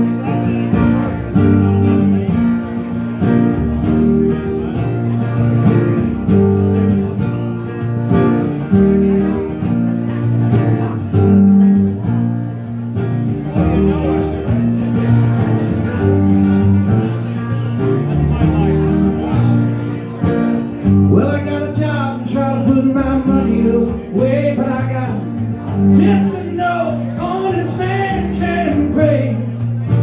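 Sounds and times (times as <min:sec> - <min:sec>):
bass notes: 0:00.0 - 0:30.0
strummed acoustic guitar: 0:00.0 - 0:30.0.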